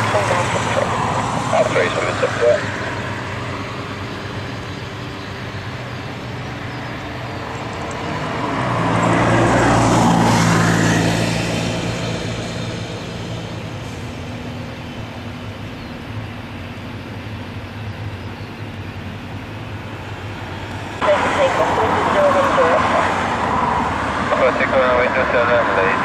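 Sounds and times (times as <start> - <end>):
jet engines passing: 0.0 - 26.0.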